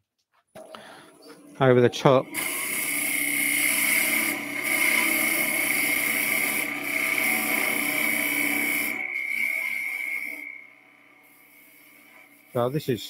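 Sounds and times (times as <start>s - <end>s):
tool cutting spinning wood: 0.6s - 13.0s
wood lathe high whine: 0.6s - 13.0s.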